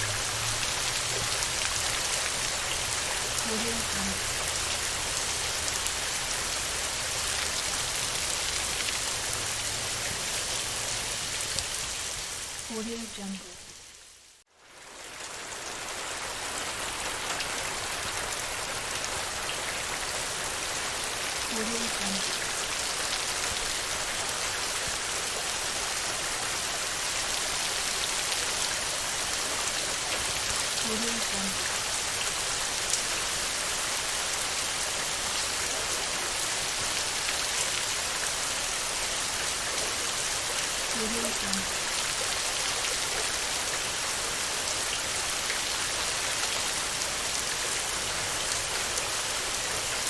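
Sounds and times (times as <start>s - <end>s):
heavy rain on a tin roof: 0.0s - 50.0s.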